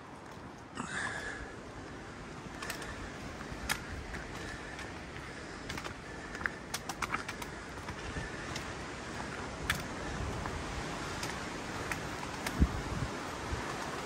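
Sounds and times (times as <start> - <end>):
footsteps on rocky trail: 0.0 - 0.9, 2.4 - 14.0
wind hiss: 0.0 - 14.0.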